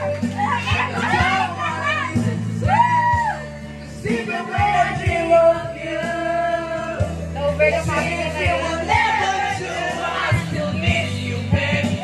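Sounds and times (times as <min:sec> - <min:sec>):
karaoke backing track: 0:00.0 - 0:12.0
people singing along: 0:00.0 - 0:12.0.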